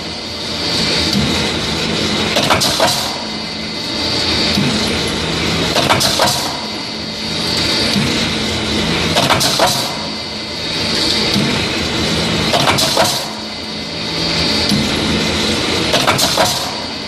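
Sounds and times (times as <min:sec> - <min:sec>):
machine motor hum and hiss: 0:00.0 - 0:17.0.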